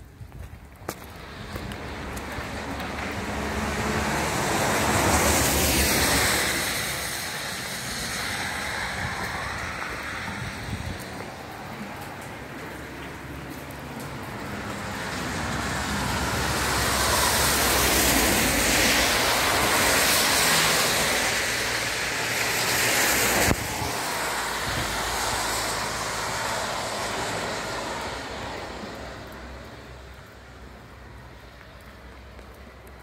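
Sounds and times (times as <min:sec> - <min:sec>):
tyres hissing on wet road: 0:00.4 - 0:33.0.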